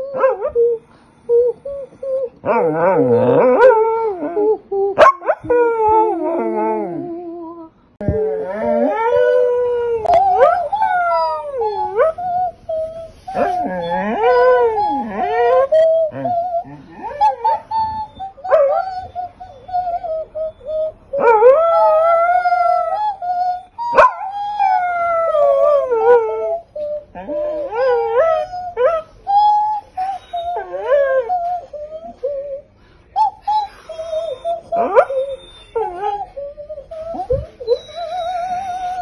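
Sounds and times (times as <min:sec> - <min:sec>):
dog howling: 0:01.4 - 0:39.0.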